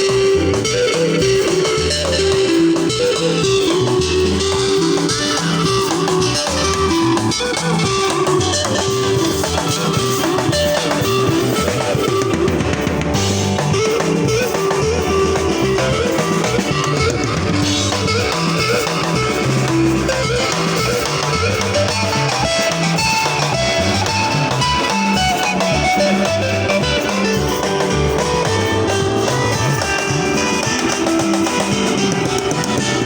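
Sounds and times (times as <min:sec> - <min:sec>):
bass line: 0:00.0 - 0:33.0
drum kit: 0:00.0 - 0:33.0
interlocking guitar lines: 0:00.0 - 0:33.0.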